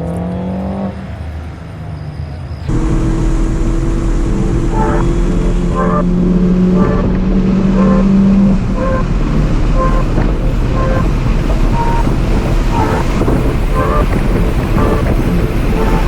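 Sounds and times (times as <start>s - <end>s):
car engine running under load: 2.7s - 16.0s.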